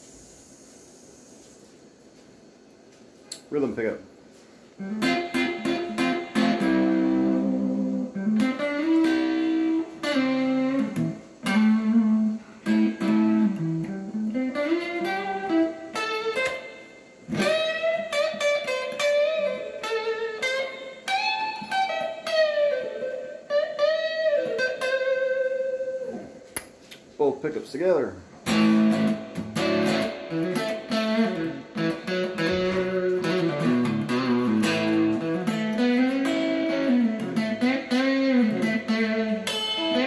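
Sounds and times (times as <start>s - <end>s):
electric guitar playing: 4.6s - 26.6s, 28.4s - 40.0s.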